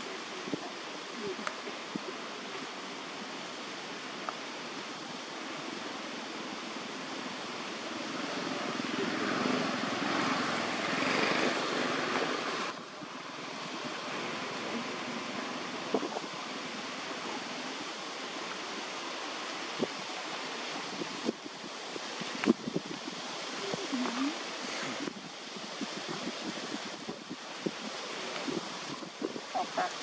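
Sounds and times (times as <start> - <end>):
outdoor rushing hiss: 0.0 - 30.0.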